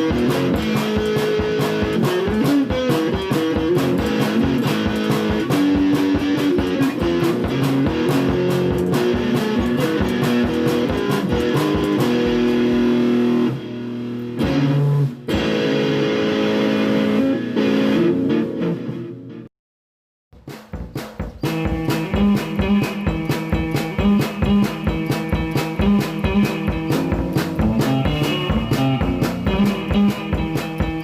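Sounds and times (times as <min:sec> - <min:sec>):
guitar plucked notes and chords: 0:00.0 - 0:19.5, 0:20.4 - 0:31.0.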